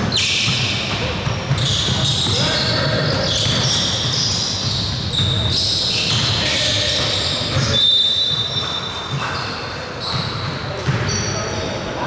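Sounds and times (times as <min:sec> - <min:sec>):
basketball bouncing on court: 0:00.0 - 0:11.5
shoe squeak: 0:00.0 - 0:11.9.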